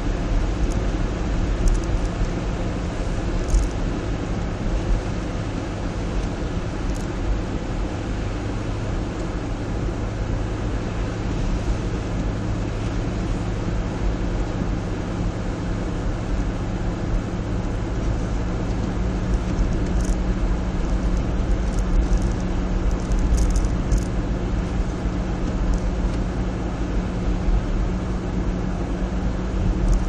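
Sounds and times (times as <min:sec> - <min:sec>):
car engine hum: 0:00.0 - 0:30.0
road rumble on snow: 0:00.0 - 0:30.0.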